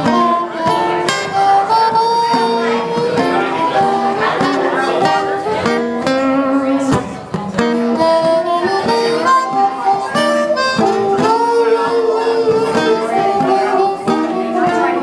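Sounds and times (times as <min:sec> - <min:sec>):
blues harmonica solo: 0:00.0 - 0:07.0, 0:07.6 - 0:15.0
guitar accompaniment: 0:00.0 - 0:15.0.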